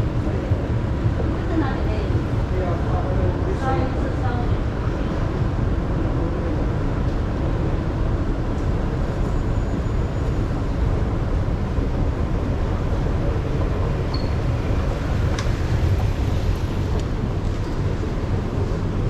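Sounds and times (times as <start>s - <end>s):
train rumble with hiss: 0.0s - 19.0s.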